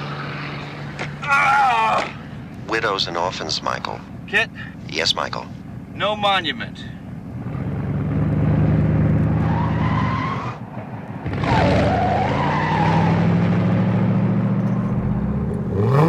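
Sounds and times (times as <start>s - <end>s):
car engine running: 0.0s - 11.3s, 13.1s - 16.0s.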